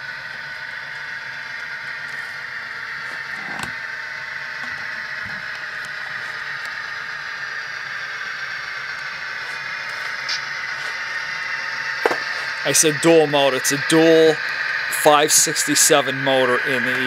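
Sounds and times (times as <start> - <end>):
model locomotive diesel engine sound: 0.0 - 17.0.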